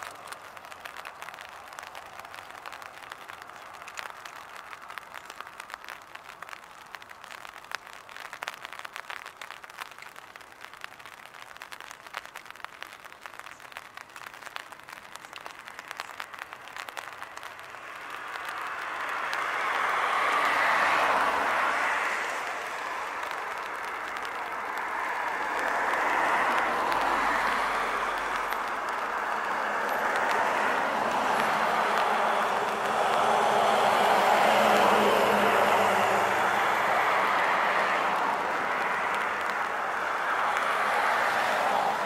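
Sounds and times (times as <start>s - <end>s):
passing vehicle tyre noise: 0.0s - 9.9s, 13.3s - 42.0s.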